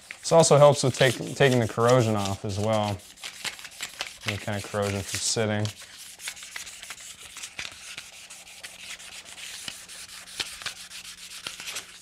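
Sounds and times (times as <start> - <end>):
sandpaper scratching on metal: 0.0 - 12.0.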